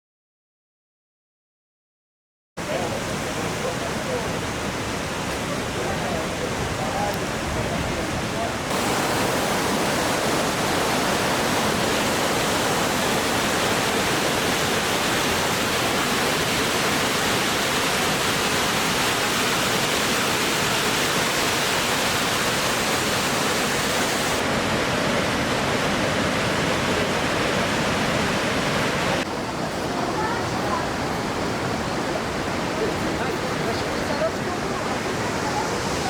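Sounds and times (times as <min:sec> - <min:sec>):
waterfall roaring: 0:02.6 - 0:36.0.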